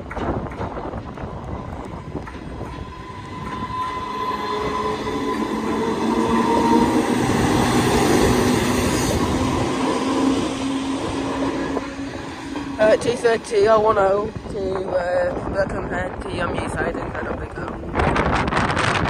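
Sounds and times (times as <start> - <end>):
train passing rumble: 0.0 - 19.0
steady pitched tones: 1.4 - 17.5.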